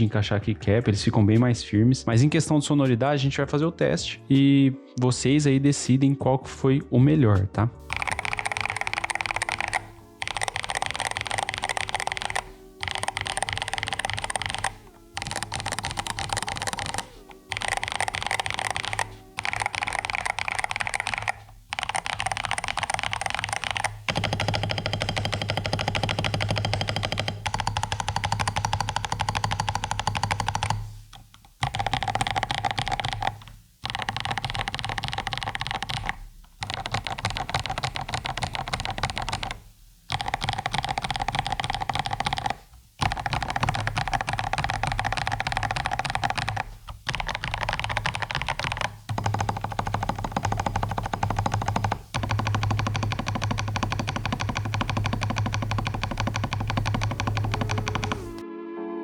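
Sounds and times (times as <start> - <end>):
mechanical keyboard typing: 7.8 - 58.4.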